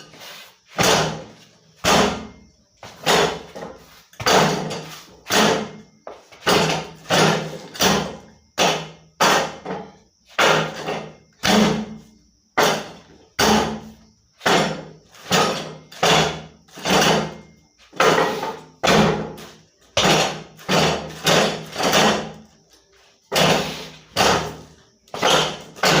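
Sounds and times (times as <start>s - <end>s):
hard wooden knocks: 0.8s - 12.0s, 12.6s - 19.4s, 23.3s - 26.0s.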